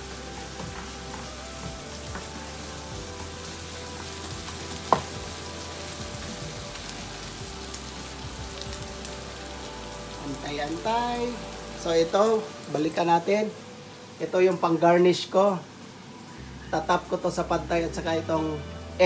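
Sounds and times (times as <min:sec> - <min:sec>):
garlic and onion sizzling in oil: 0:00.0 - 0:19.0.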